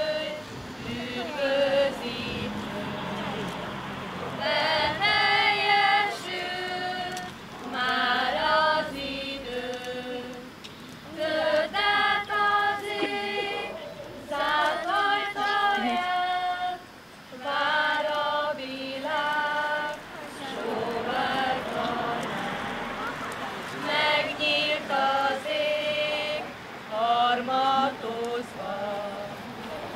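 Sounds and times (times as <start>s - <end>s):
children's choir singing: 0.0s - 29.9s.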